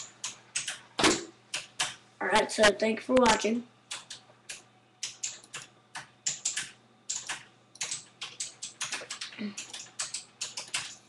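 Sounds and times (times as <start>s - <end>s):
computer keyboard typing: 0.0s - 2.0s, 3.2s - 11.0s.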